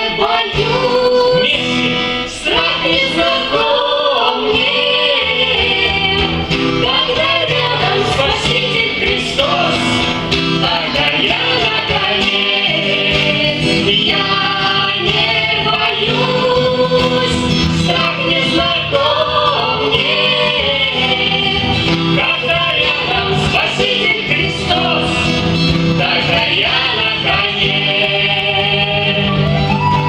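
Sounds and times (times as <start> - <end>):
adults and children singing: 0.0 - 30.0
guitar accompaniment: 0.0 - 30.0.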